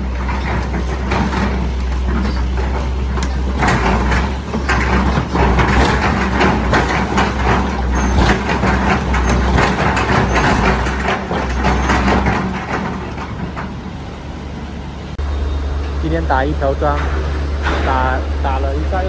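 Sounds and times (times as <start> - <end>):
knocks and clanks: 0.0 - 14.3, 16.6 - 19.0
diesel engine drone: 0.0 - 19.0.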